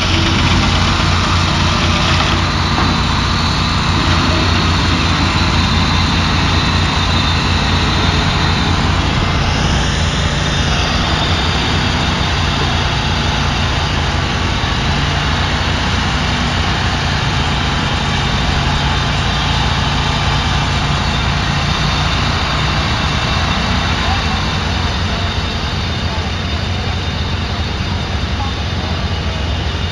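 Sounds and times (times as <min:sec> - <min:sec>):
engine droning: 0:00.0 - 0:29.9
rising and falling whine: 0:00.0 - 0:29.9.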